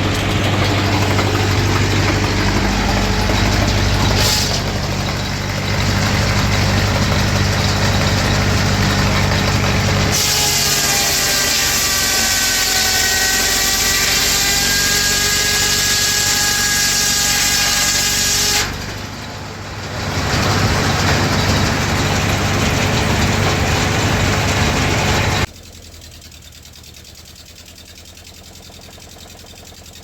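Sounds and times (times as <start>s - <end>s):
circular saw blade cutting log: 0.0s - 25.5s
engine running: 0.0s - 30.0s.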